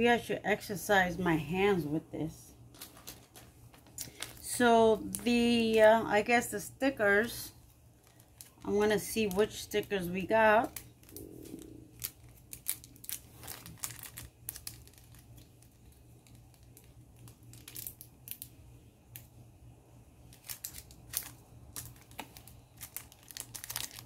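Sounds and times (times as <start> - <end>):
wrapper crinkling: 2.6 - 6.1, 7.0 - 19.2, 20.2 - 24.0.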